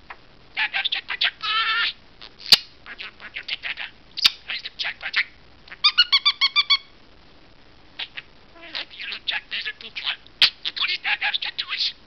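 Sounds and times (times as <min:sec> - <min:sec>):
parakeet chirping: 0:00.6 - 0:07.0, 0:08.0 - 0:12.0
parakeet repeated pitched notes: 0:00.6 - 0:07.0, 0:08.0 - 0:12.0.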